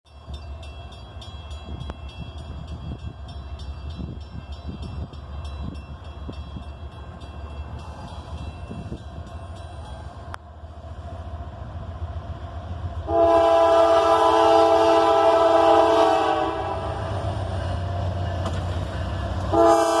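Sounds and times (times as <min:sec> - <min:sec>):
coal train rumbling by: 0:00.1 - 0:20.0.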